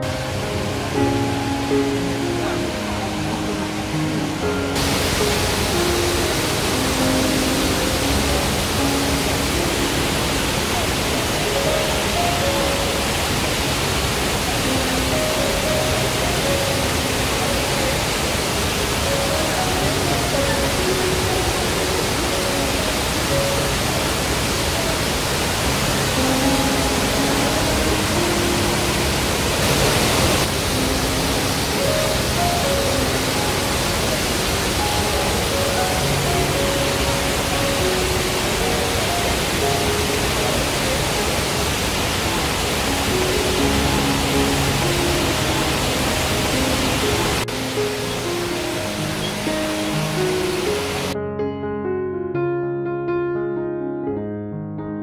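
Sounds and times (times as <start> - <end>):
soft background music: 0.0 - 51.2
waterfall rushing into a pool: 0.0 - 51.2.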